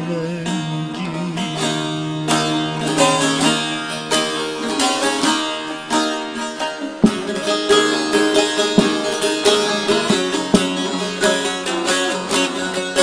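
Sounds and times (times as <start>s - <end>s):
plucked long-necked lute: 0.0s - 13.0s.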